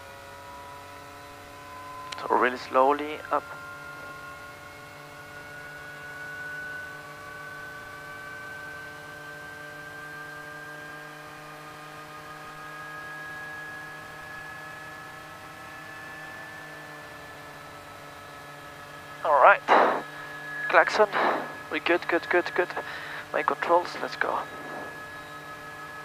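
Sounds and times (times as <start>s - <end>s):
helicopter turbine engine whining: 0.3s - 10.0s, 14.7s - 26.0s.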